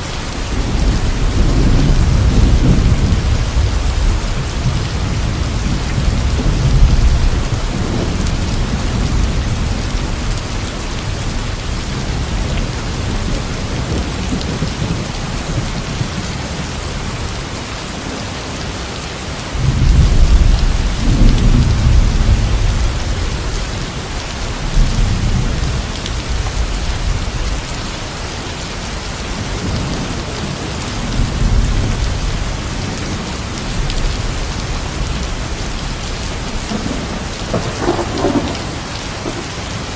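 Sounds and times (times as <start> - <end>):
heavy rain: 0.0 - 39.9
thunder rumbling: 0.2 - 17.4, 19.6 - 27.7, 29.3 - 39.9.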